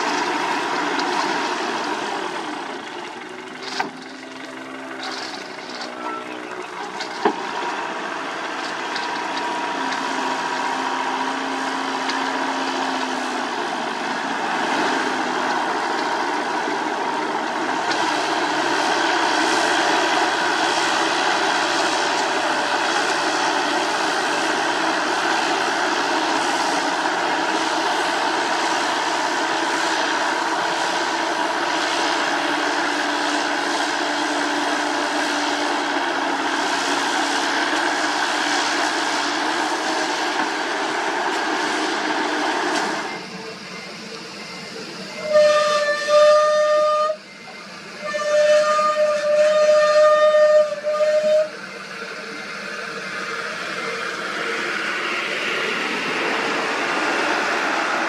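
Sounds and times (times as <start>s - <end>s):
paving machinery engine drone: 0.0s - 58.0s.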